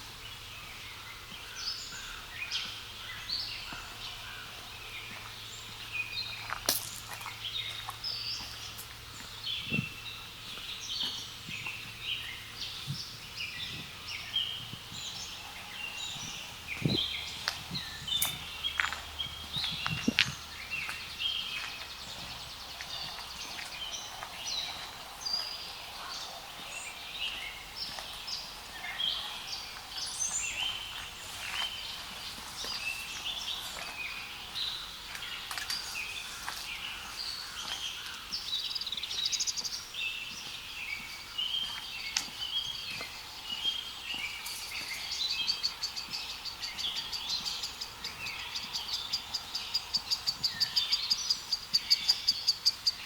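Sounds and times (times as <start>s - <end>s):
birds chirping and whistling: 0.3s - 53.0s.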